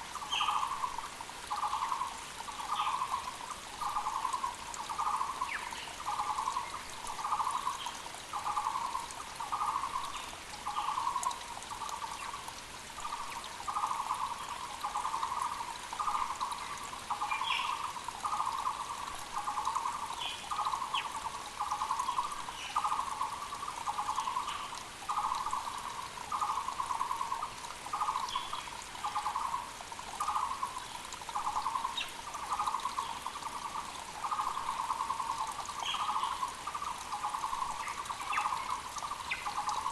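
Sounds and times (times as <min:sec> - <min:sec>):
mountain creek rushing: 0:00.0 - 0:39.9
small birds chirping: 0:00.2 - 0:39.9.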